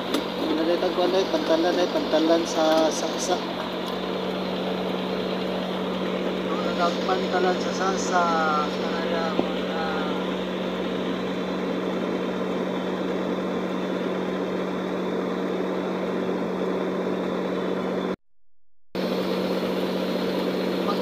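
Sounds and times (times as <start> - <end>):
engine humming: 0.0 - 18.2, 19.0 - 21.0.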